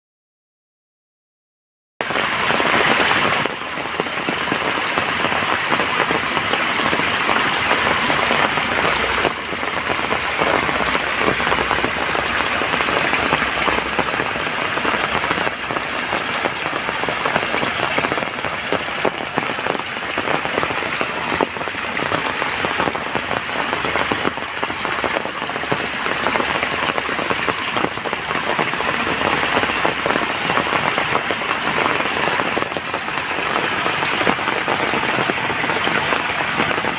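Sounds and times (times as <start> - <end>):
heavy rain falling: 2.0 - 36.9.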